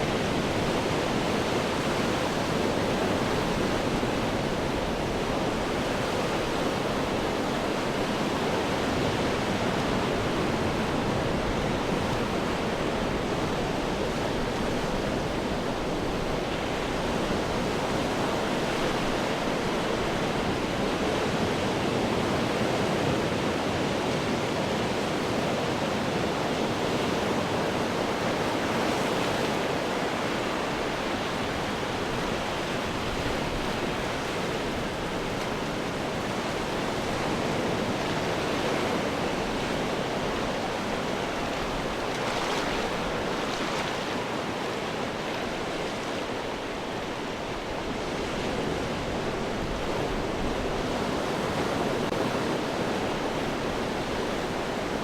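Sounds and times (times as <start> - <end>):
surf crashing on rocks: 0.0 - 55.0.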